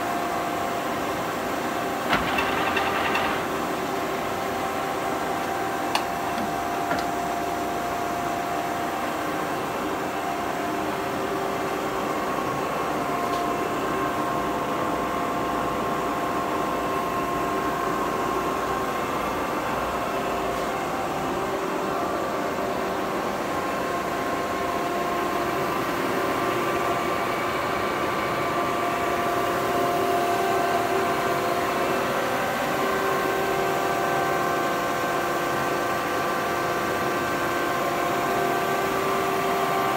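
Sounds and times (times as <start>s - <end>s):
lathe running with mechanical hum: 0.0s - 39.9s.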